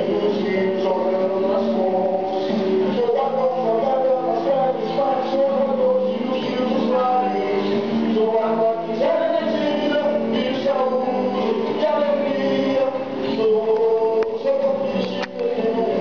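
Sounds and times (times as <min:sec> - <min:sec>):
musical accompaniment: 0:00.0 - 0:16.0
people singing: 0:00.0 - 0:16.0.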